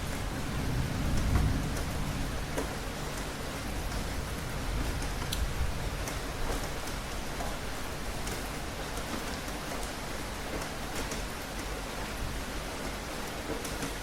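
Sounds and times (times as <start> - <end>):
raindrops ticking on a surface: 0.0 - 14.0
steady rainfall: 0.0 - 14.0.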